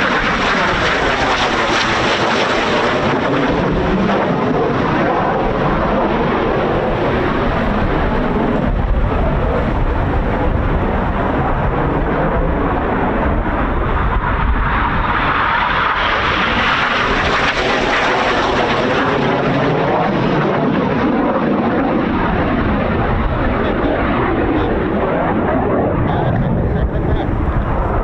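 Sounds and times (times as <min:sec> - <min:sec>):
jet engines roaring past: 0:00.0 - 0:28.0
wind rumbling on microphone: 0:00.0 - 0:28.0.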